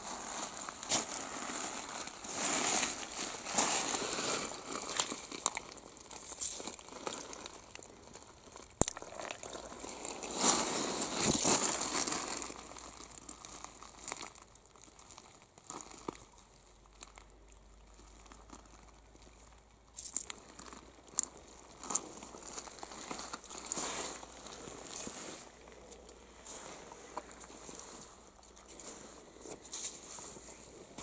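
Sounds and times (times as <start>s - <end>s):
hand digging wet gravel and mud: 0.0s - 19.1s, 20.0s - 31.0s.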